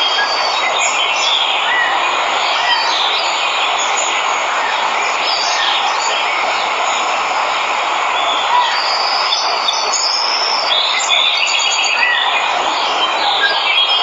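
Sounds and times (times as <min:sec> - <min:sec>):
birds chirping: 0:00.0 - 0:14.0
waterfall roaring: 0:00.0 - 0:14.0.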